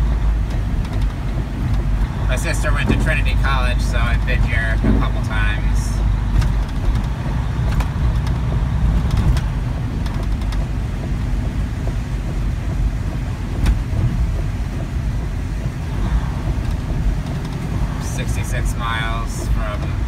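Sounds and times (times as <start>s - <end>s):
diesel engine drone: 0.0s - 20.0s
road and tyre noise: 0.0s - 20.0s.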